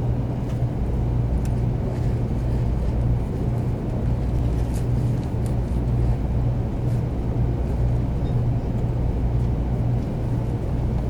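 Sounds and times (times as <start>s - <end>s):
constant low hum: 0.0s - 11.0s
train rumbling inside cabin: 0.0s - 11.0s.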